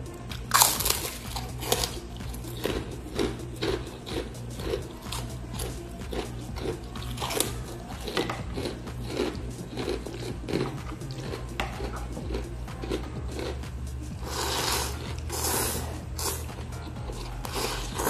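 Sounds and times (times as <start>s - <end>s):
person chewing crunchy food: 0.3s - 18.0s.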